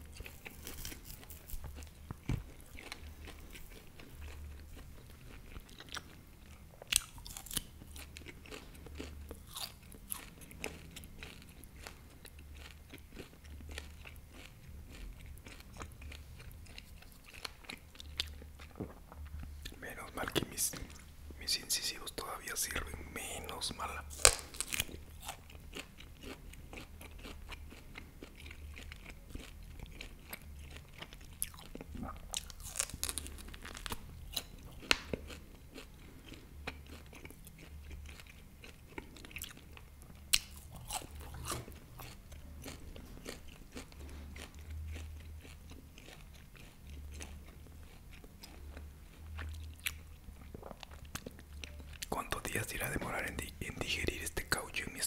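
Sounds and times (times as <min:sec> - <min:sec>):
biting and chewing meat: 0:00.0 - 0:21.0, 0:21.7 - 0:55.0.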